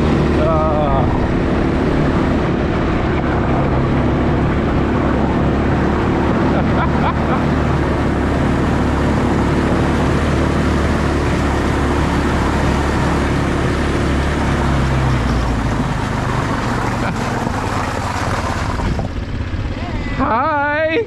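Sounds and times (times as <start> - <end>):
tyres on snowy road: 0.0 - 21.0
vehicle engine hum: 0.0 - 21.0.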